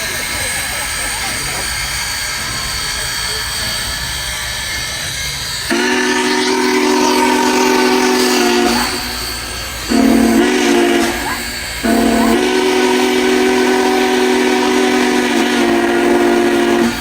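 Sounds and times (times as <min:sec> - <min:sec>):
steam hiss: 0:00.0 - 0:17.0
steam locomotive chime whistle: 0:00.0 - 0:17.0.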